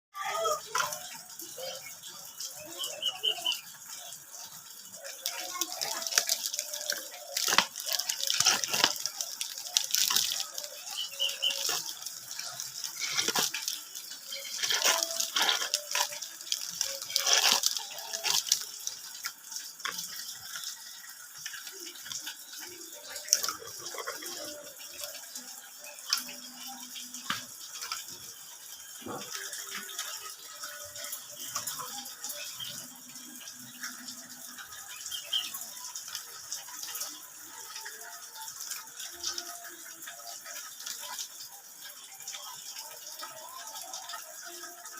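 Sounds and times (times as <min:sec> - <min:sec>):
water splashing and spraying: 0:00.2 - 0:44.9.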